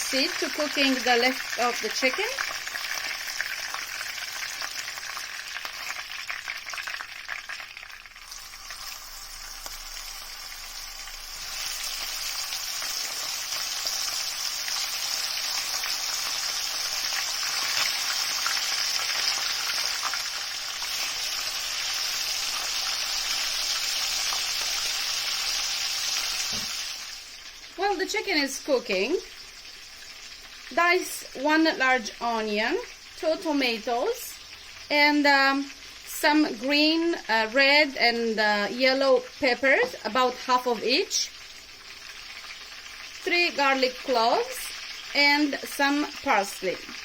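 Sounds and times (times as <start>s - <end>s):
chicken sizzling in hot oil: 0.0s - 47.0s.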